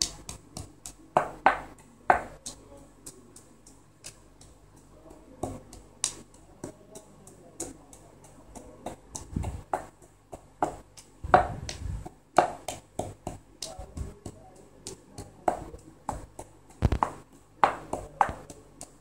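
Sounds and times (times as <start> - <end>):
pestle pounding nuts in a mortar: 0.0 - 19.0.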